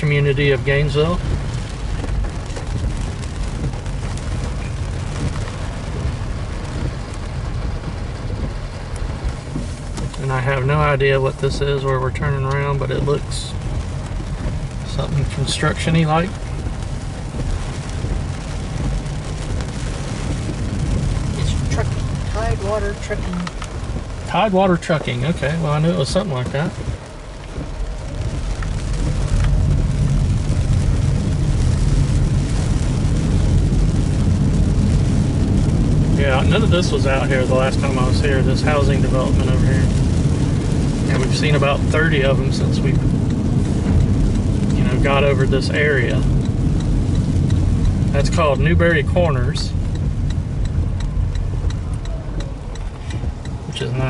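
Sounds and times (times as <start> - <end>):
rain hissing on car: 0.0 - 54.0
road and engine rumble: 0.0 - 54.0.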